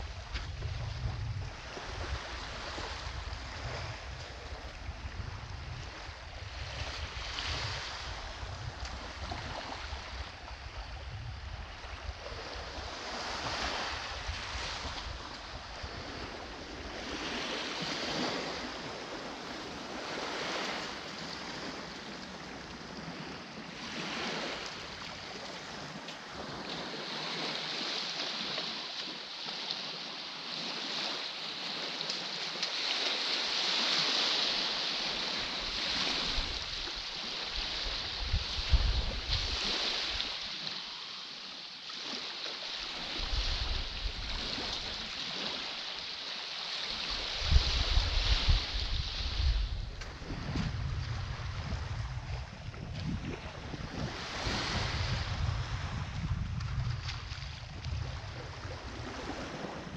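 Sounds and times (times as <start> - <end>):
wind rumbling on microphone: 0.0 - 28.8, 33.7 - 40.4, 42.8 - 45.7, 46.8 - 59.9
sea waves washing on shore: 0.0 - 59.9.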